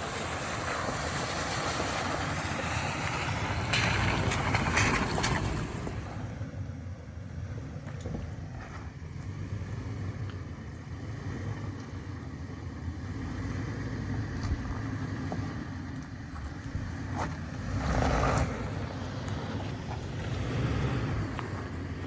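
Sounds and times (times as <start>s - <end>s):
truck engine running low: 0.0s - 22.0s.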